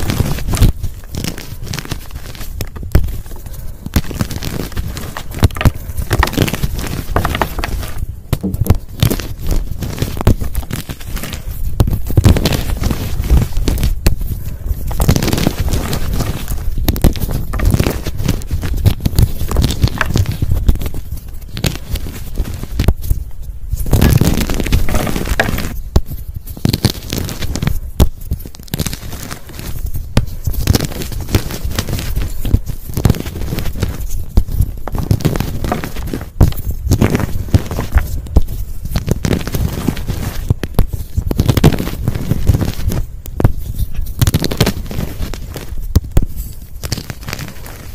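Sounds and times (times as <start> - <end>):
chalk blocks crunching: 0.0 - 47.9.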